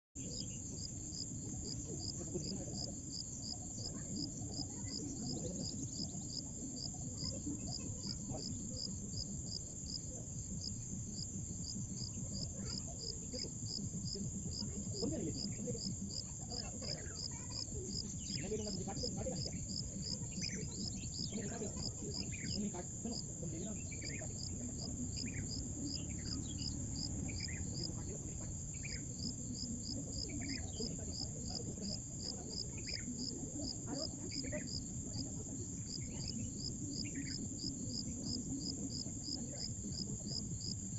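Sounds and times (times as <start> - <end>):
crickets trilling: 0.2 - 40.9.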